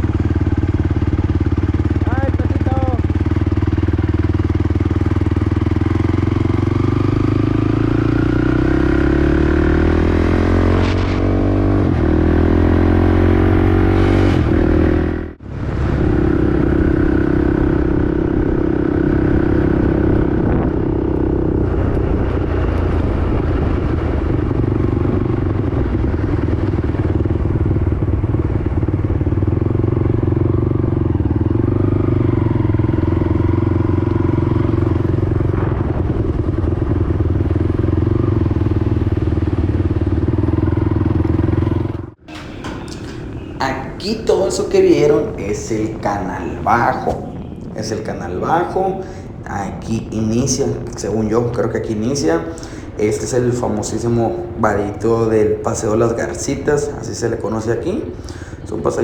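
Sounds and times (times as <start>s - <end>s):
quad engine accelerating: 0.0s - 59.0s.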